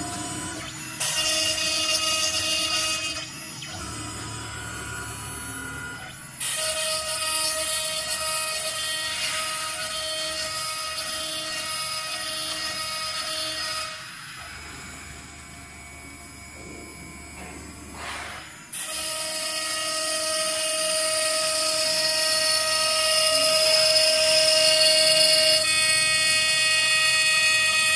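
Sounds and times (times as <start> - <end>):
router spindle whining cutting wood: 0.0 - 27.9.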